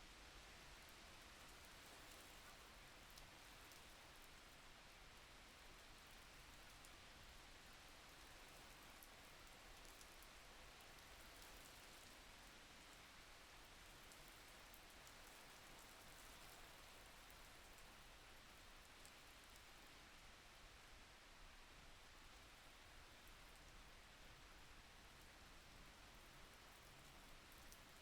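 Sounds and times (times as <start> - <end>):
faint steady rain: 0.0 - 28.0.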